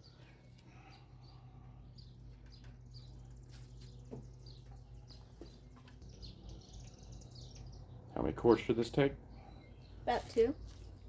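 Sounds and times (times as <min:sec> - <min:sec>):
faint bird chirping: 0:00.0 - 0:11.0
low steady hum: 0:00.0 - 0:11.0.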